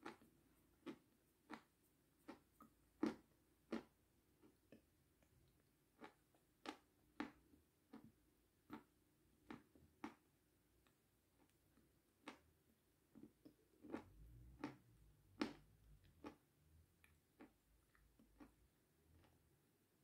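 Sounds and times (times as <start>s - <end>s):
wet chewing clicks: 0.0s - 12.5s, 13.1s - 19.4s.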